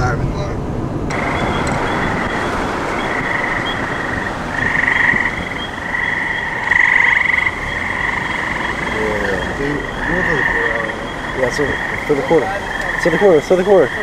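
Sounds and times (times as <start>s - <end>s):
car road rumble: 0.0s - 14.0s
frogs trilling: 1.1s - 14.0s.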